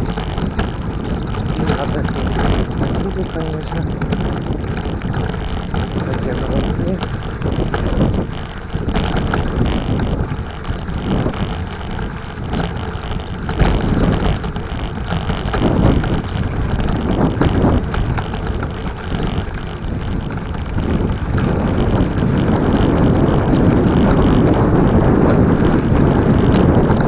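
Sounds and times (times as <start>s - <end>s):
rushing road noise: 0.0s - 27.0s
wind buffeting microphone: 0.0s - 27.0s.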